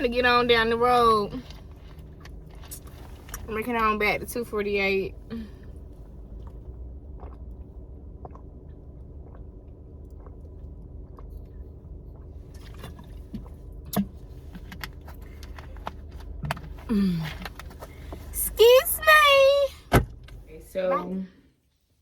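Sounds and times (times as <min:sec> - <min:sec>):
car hum inside cabin: 0:00.0 - 0:22.0.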